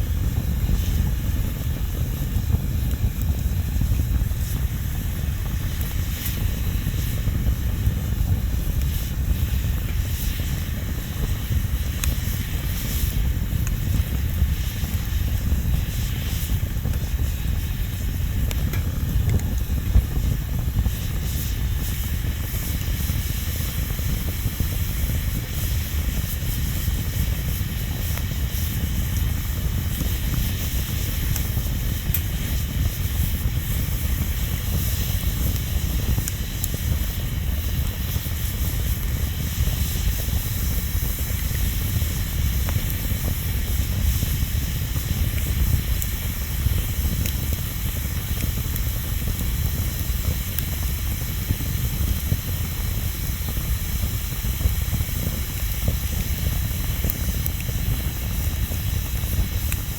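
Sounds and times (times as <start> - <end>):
fire crackles and pops: 0.0 - 59.9
wood fire rumbling and hissing: 0.0 - 59.9.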